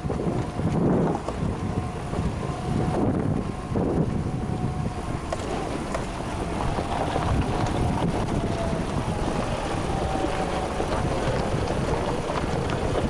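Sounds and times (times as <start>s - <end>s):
vehicle engine rumble: 0.0s - 13.0s
wind buffeting microphone: 0.0s - 13.0s.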